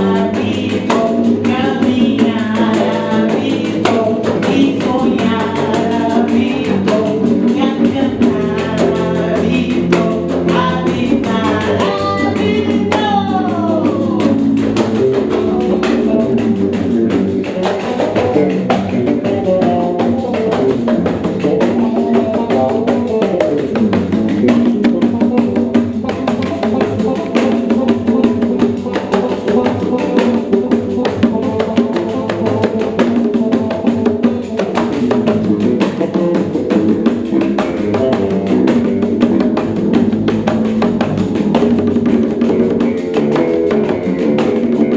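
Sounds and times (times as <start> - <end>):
frame drum ensemble: 0.0 - 44.9
person singing: 0.0 - 44.9.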